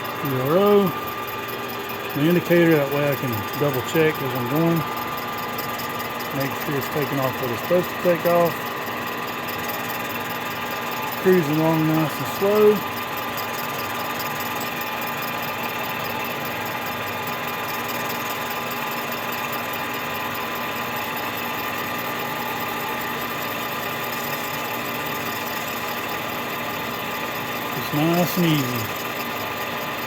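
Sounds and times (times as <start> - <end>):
metal lathe cutting: 0.0 - 30.0.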